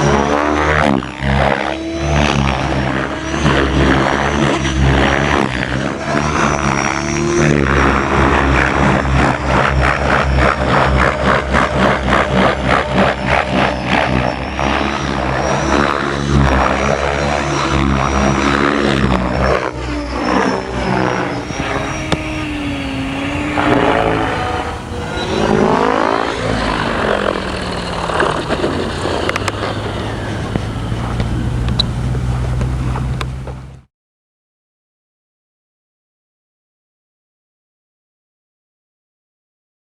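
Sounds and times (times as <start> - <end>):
electric motor whine: 0.0 - 33.9
model helicopter rotor chopping: 0.0 - 33.9.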